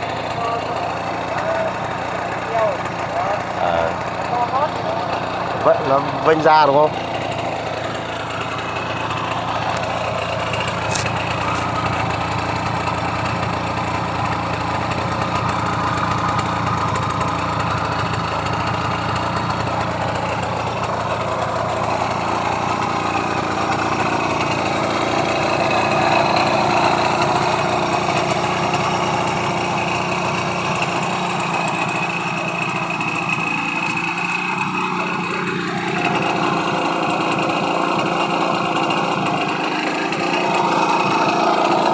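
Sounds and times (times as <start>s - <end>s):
small engine idling: 0.0s - 41.9s.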